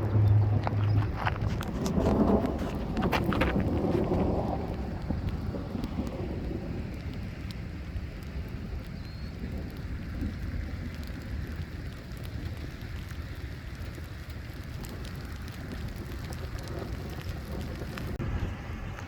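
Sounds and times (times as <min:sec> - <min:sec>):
raindrops ticking: 0:00.0 - 0:18.2
thunder rumble: 0:00.0 - 0:19.0.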